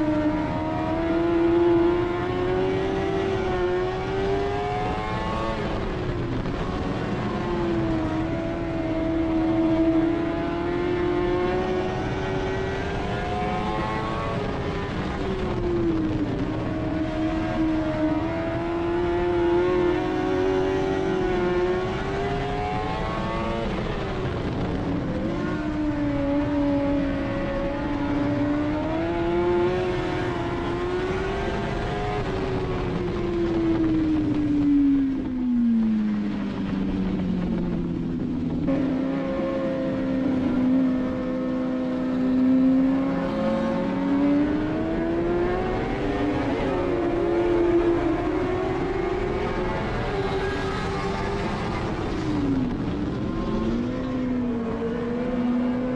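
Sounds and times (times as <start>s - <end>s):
race car engine revving: 0.0s - 36.6s, 37.6s - 55.9s.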